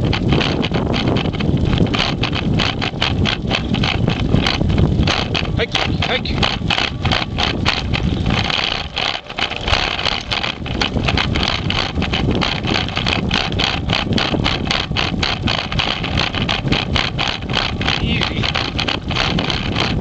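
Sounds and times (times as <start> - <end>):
camera mount rattling vibration: 0.0 - 20.0
rapid irregular clicks: 0.0 - 20.0.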